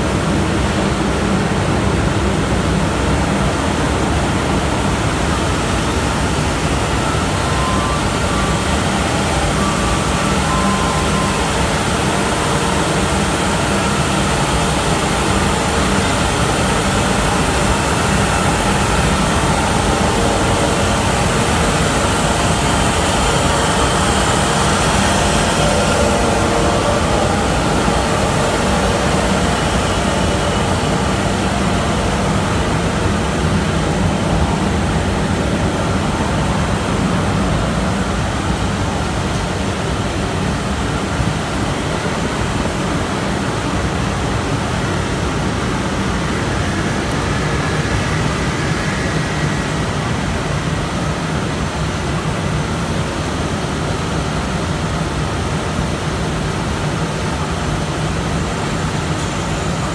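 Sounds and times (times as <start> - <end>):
dryer fans rushing air: 0.0 - 59.9.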